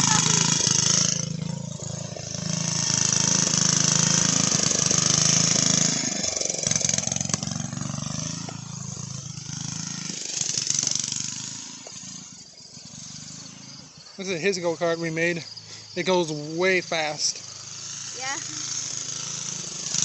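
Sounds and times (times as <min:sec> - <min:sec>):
small go-kart engine running: 0:00.0 - 0:20.0.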